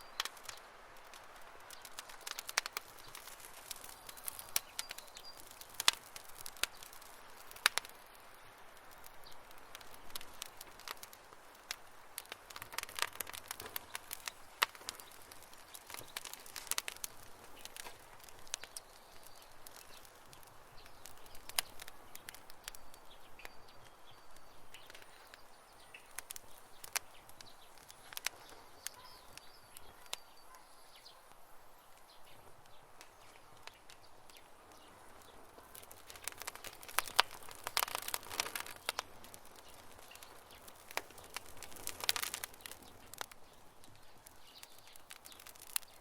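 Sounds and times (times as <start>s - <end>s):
campfire popping and snapping: 0.0s - 46.0s
soft fire hiss: 0.0s - 46.0s.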